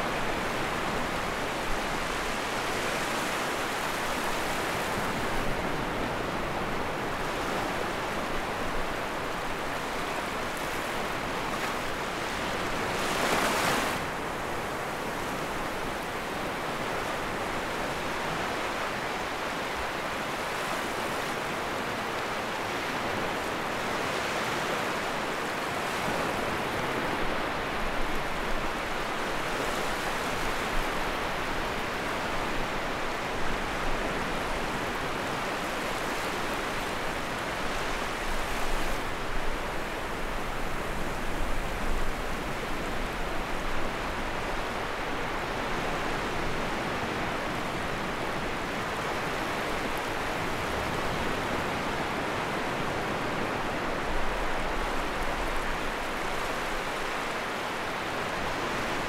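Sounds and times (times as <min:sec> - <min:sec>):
sea waves washing onto shore: 0:00.0 - 0:59.0.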